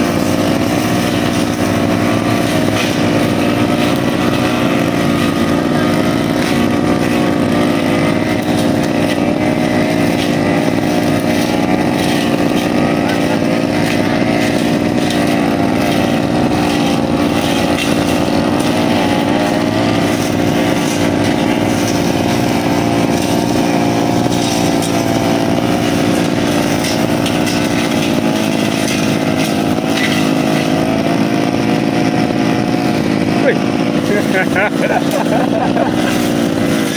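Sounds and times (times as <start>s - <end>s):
brushcutter engine running: 0.0s - 36.9s.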